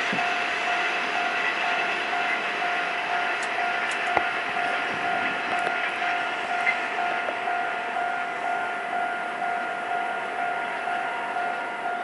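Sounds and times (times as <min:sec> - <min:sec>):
freight train rumble: 0:00.0 - 0:12.0
level crossing warning bell: 0:00.0 - 0:12.0.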